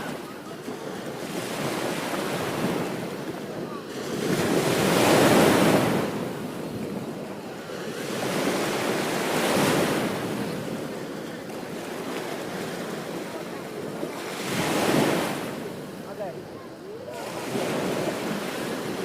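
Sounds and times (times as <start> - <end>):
ocean waves breaking on beach: 0.0 - 19.0.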